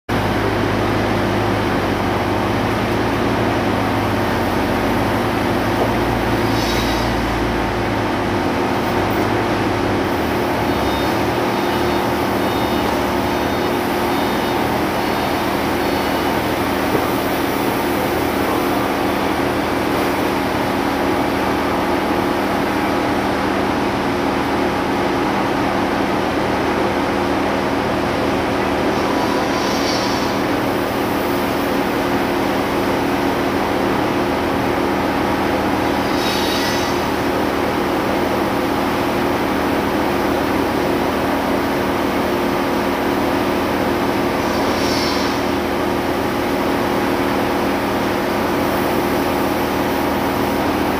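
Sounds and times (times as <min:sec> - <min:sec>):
machinery droning: 0:00.2 - 0:23.0, 0:28.3 - 0:50.9.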